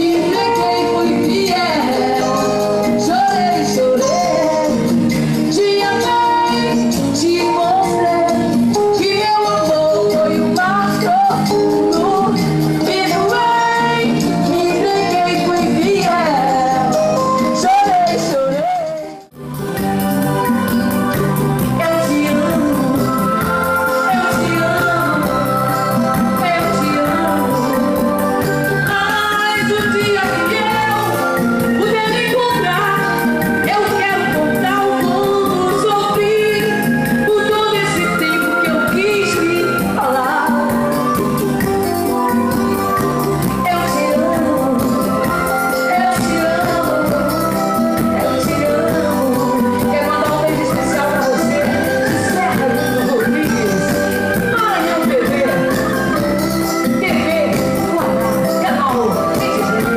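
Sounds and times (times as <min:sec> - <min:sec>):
live band playing: 0:00.0 - 0:59.9
person singing: 0:00.0 - 0:59.9.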